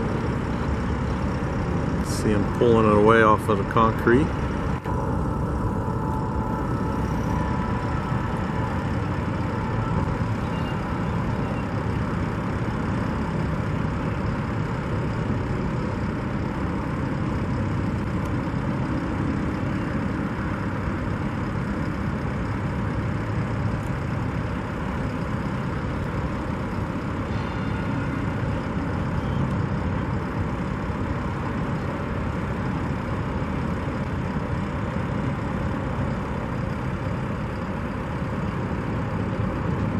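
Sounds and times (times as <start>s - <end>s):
heavy engine drone: 0.0s - 39.9s.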